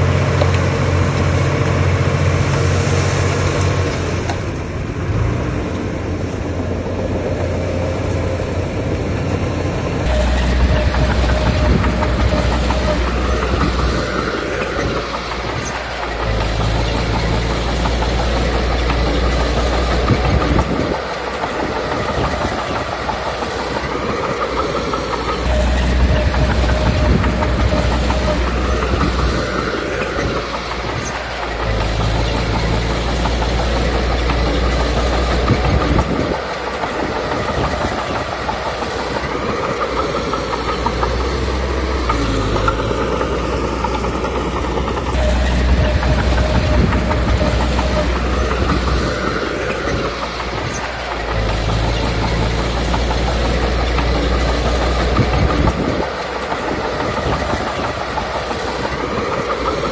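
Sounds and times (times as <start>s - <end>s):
bulldozer diesel engine: 0.0s - 59.9s
steel tracks clattering: 0.0s - 59.9s.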